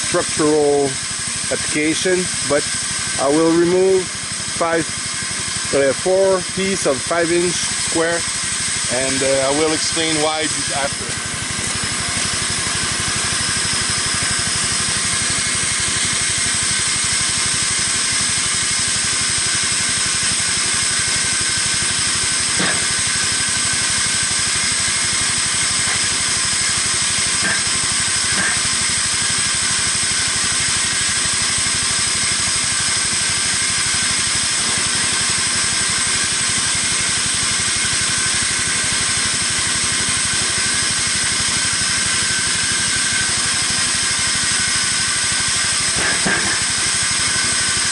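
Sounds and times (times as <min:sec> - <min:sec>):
band saw cutting a log: 0:00.0 - 0:47.9.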